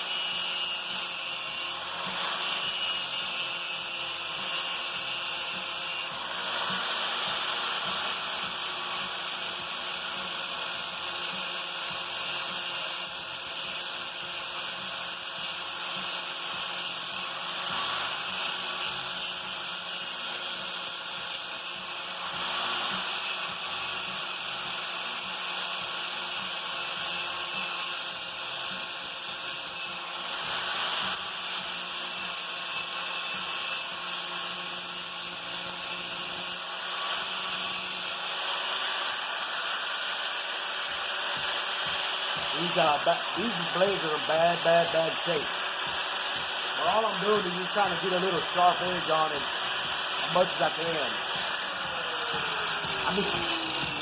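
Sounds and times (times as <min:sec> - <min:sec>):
angle grinder grinding metal: 0:00.0 - 0:54.0.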